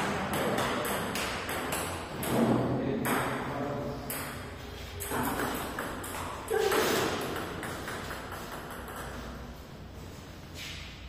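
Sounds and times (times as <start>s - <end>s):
table tennis ball bouncing: 0.0s - 9.4s.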